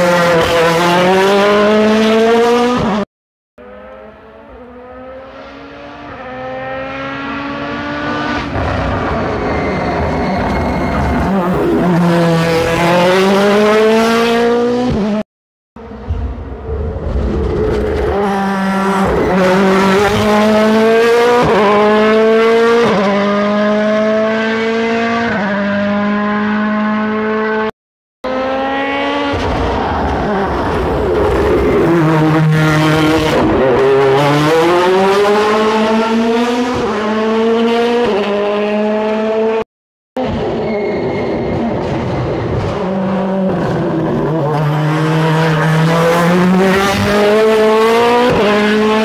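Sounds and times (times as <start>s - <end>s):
rally car engine revving: 0.0s - 3.0s, 3.6s - 9.8s, 10.4s - 15.2s, 15.8s - 39.6s, 40.2s - 49.0s.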